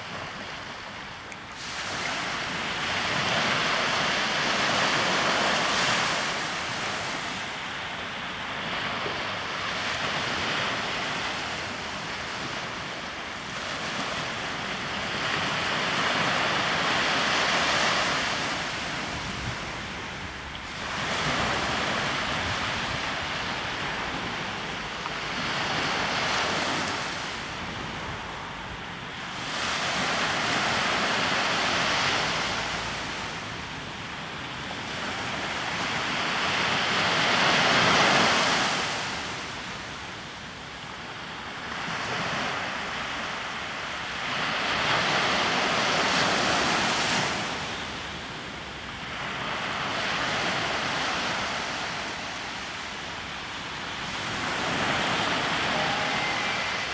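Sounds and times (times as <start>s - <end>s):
sea waves breaking on shore: 0.0s - 56.9s.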